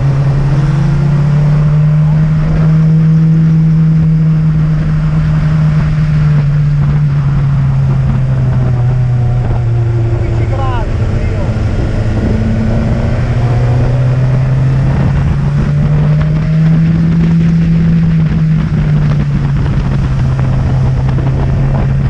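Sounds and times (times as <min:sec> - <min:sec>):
motorcycle engine droning: 0:00.0 - 0:22.0
wind rush on microphone: 0:00.0 - 0:22.0.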